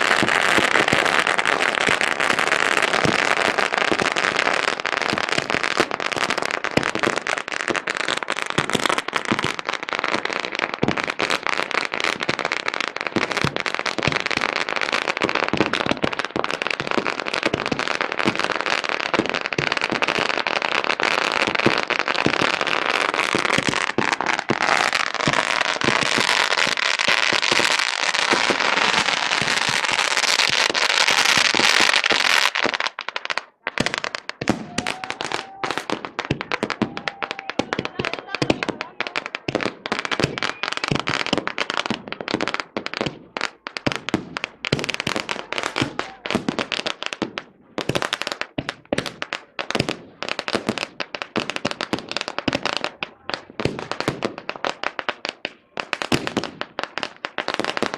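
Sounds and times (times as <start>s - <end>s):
firecrackers banging and crackling: 0.0s - 57.9s.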